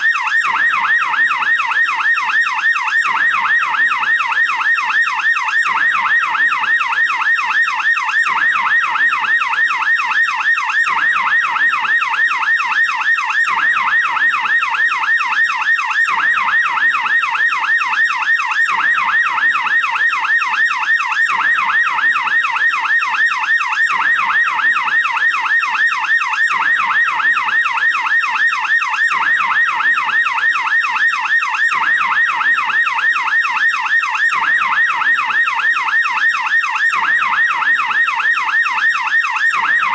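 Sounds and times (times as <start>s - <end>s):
police siren yelp: 0.0s - 39.9s.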